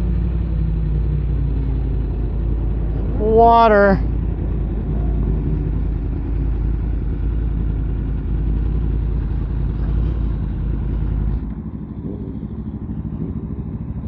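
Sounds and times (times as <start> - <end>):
sport bike engine running: 0.0 - 14.0.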